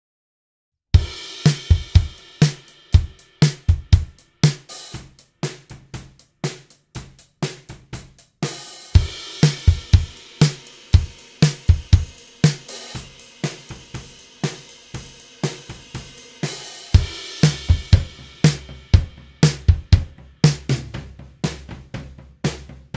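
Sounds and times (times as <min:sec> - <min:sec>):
drum kit playing a groove: 0:01.0 - 0:22.9.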